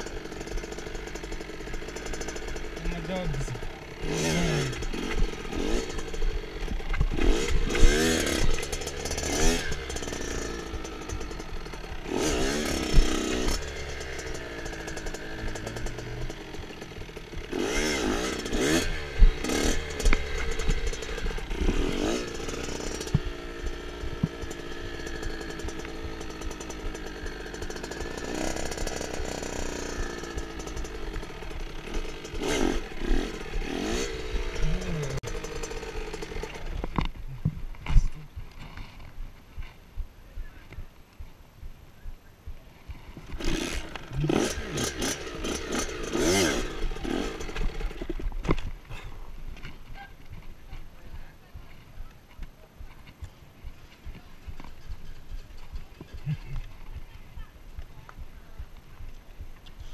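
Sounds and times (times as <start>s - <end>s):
dirt bike engine revving: 0.0s - 39.7s, 41.6s - 59.9s.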